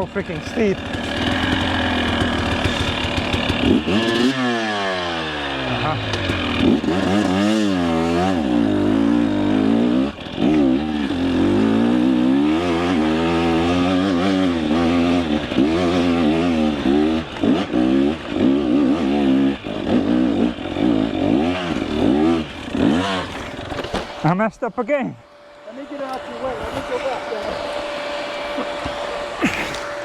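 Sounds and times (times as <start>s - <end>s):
motorbike engine revving hard: 0.0s - 24.4s, 25.3s - 30.0s.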